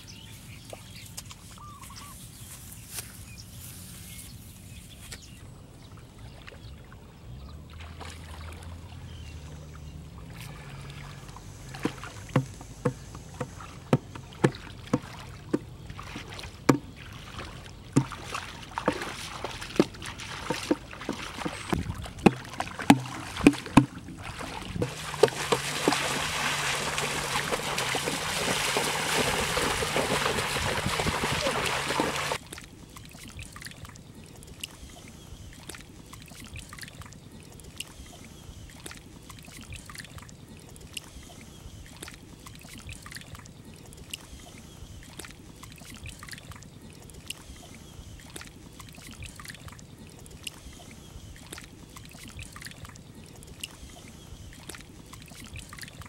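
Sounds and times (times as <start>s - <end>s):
feet splashing through water: 4.9s - 56.0s
small splashes and sloshes: 5.0s - 56.0s.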